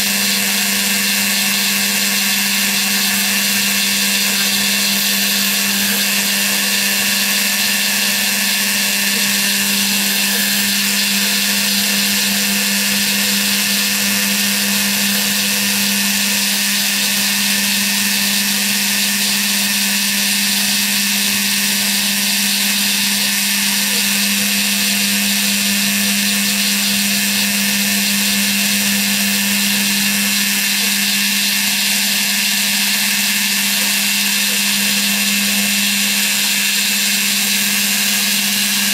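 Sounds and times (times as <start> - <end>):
bit milling foam hiss: 0.0 - 38.9
cnc router spindle humming: 0.0 - 38.9.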